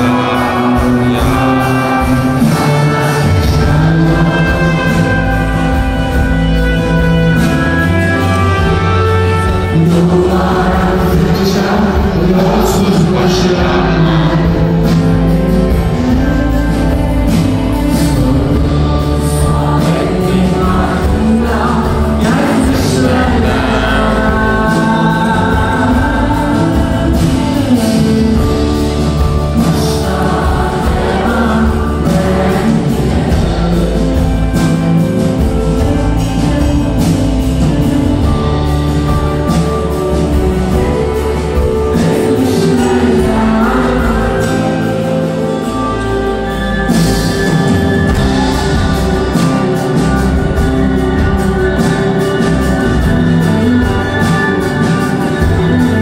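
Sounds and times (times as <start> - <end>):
drums: 0.0 - 56.0
guitars: 0.0 - 56.0
person singing: 0.0 - 56.0.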